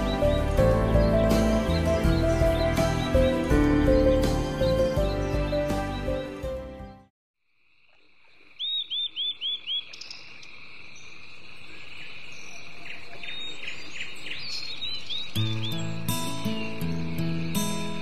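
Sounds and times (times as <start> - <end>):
birds chirping: 0.0 - 7.1, 8.3 - 18.0.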